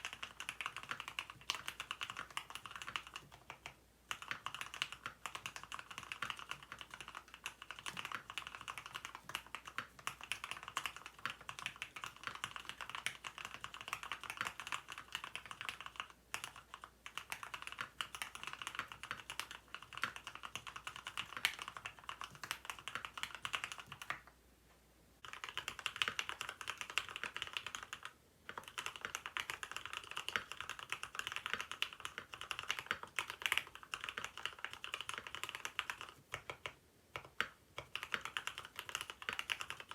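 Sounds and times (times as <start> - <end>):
mechanical keyboard typing: 0.0 - 24.3, 25.2 - 39.9.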